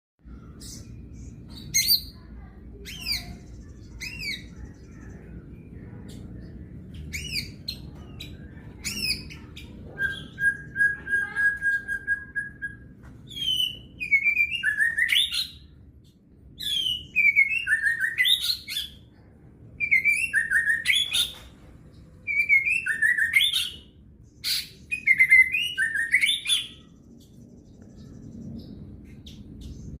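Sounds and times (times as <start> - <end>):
songbird singing: 0.2 - 30.0.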